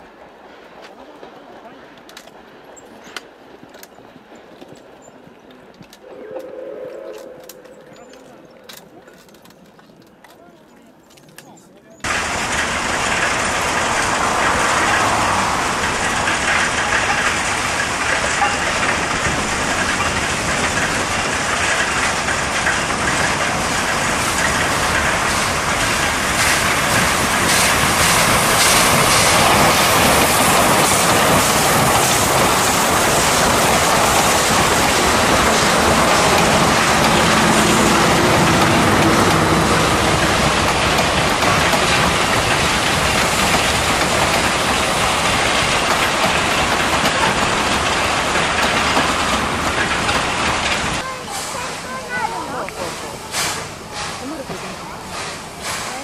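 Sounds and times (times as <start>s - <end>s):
train coaches rolling over rails: 0.0s - 56.0s
steam locomotive exhaust and hiss: 6.0s - 8.5s, 12.0s - 56.0s.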